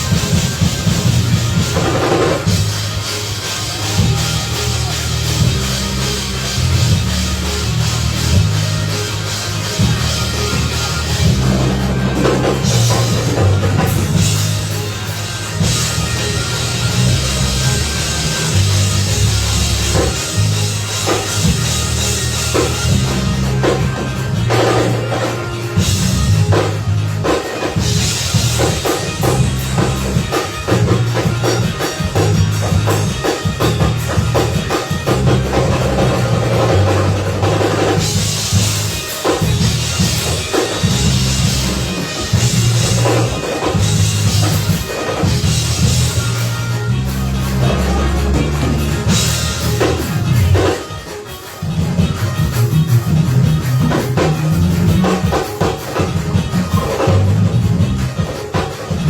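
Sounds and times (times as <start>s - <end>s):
loud bass line: 0.0s - 50.8s, 51.6s - 58.2s
church band playing: 0.0s - 59.0s
driving drum kit: 0.0s - 59.0s.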